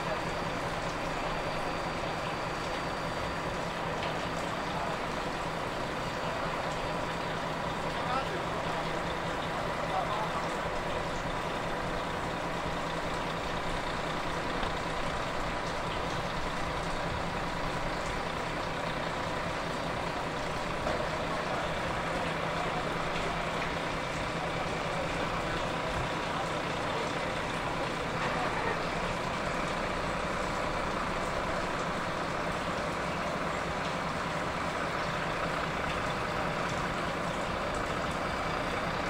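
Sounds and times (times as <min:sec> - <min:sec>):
drone of engines and ground equipment: 0:00.0 - 0:33.1
constant high whine: 0:00.0 - 0:39.0.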